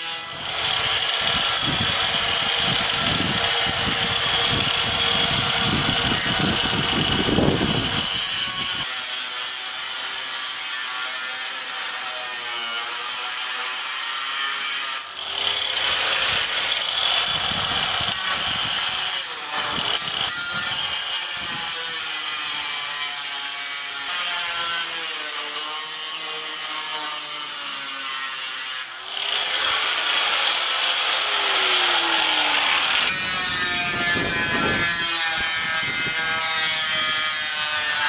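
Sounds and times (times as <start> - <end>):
angle grinder cutting steel sheet: 0.0 - 38.0.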